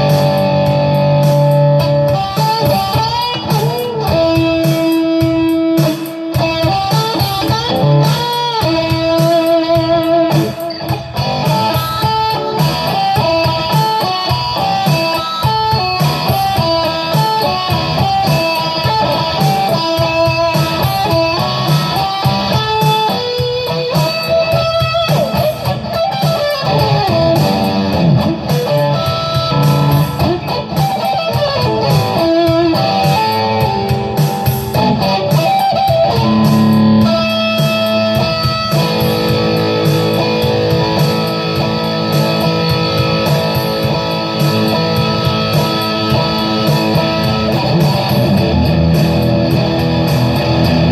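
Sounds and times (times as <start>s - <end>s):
electric guitar lead: 0.0s - 50.9s.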